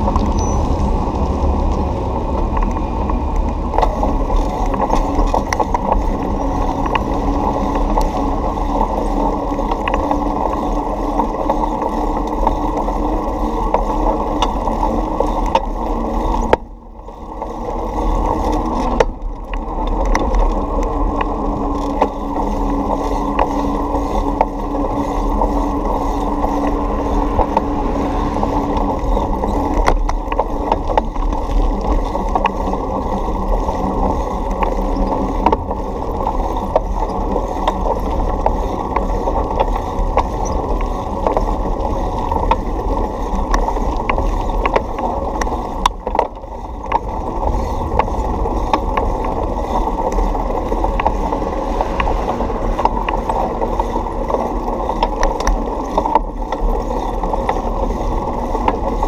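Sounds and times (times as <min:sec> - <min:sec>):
bicycle rolling over sidewalk: 0:00.0 - 0:59.0.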